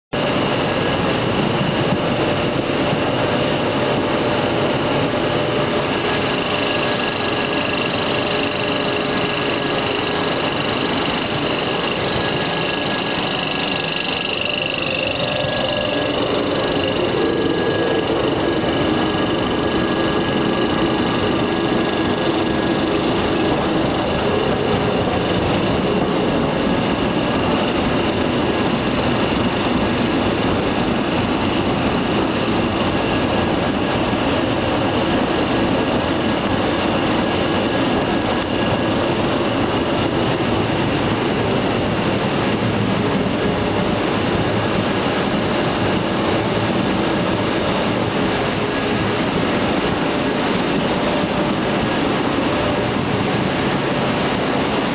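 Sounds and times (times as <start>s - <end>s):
faint high whine: 0.2s - 54.9s
loud machinery din: 0.2s - 54.9s.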